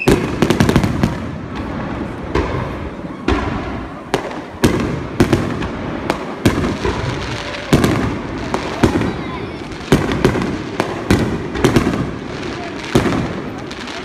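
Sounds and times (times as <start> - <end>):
continuous fireworks din: 0.0 - 14.0
fireworks booming: 0.0 - 14.0.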